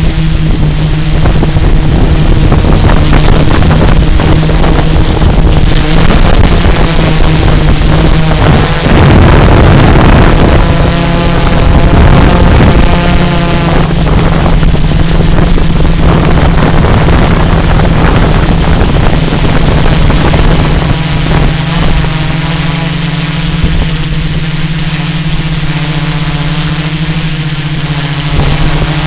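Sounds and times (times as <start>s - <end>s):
drone propellers buzzing: 0.0s - 29.0s
wind noise on microphone: 0.0s - 29.0s.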